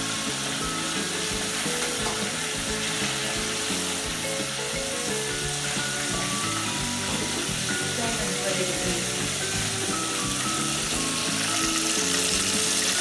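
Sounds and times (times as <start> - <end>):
background music: 0.0 - 13.0
fish deep-frying in oil: 0.0 - 13.0.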